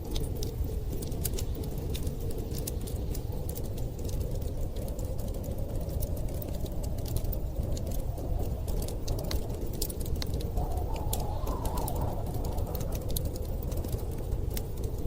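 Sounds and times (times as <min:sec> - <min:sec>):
low rumble of storm wind: 0:00.0 - 0:15.0
wood fire crackling and popping: 0:00.0 - 0:15.0.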